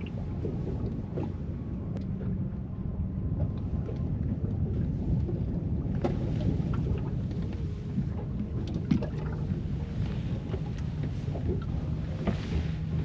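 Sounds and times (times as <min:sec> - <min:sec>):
water around a boat: 0:00.0 - 0:13.0
wind on microphone: 0:00.0 - 0:13.0.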